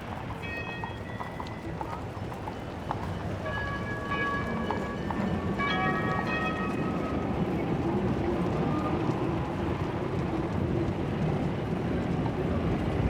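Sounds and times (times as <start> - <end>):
rail vehicle rumbling: 0.0 - 13.0.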